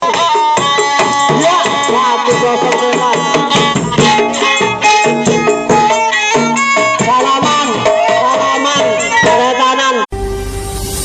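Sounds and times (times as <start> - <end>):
drums beating a quick rhythm: 0.0 - 10.0.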